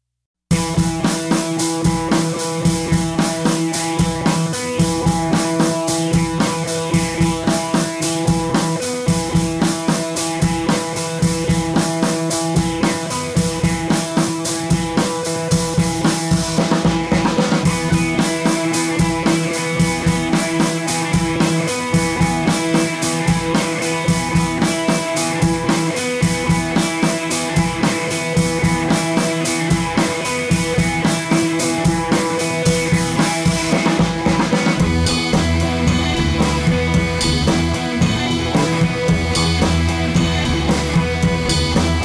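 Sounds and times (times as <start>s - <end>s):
background music with drum beat: 0.5s - 42.0s.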